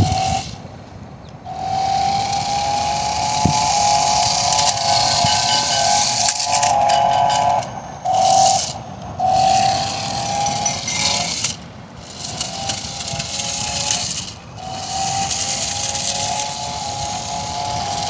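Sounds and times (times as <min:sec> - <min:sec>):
toy car motor whining: 0:00.0 - 0:00.6, 0:01.5 - 0:18.0.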